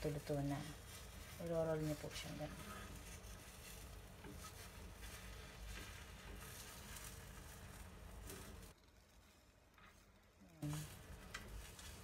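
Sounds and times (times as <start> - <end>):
egg sizzling in a pan: 0.0 - 12.0.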